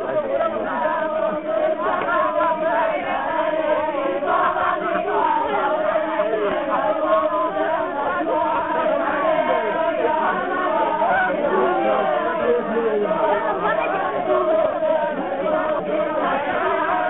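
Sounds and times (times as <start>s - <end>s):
group chanting: 0.0s - 17.0s.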